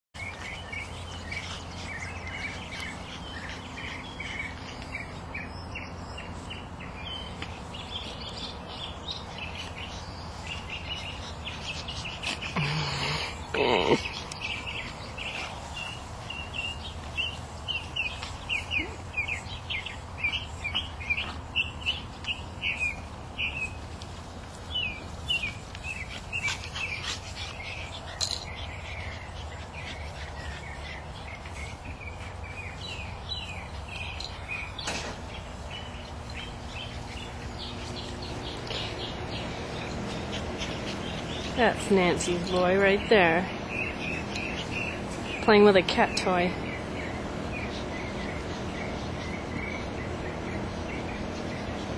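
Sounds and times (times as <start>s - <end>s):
small birds chirping: 0.1s - 51.9s.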